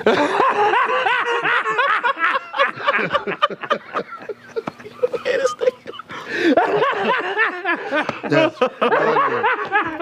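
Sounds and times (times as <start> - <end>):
person chuckling: 0.0 - 10.0.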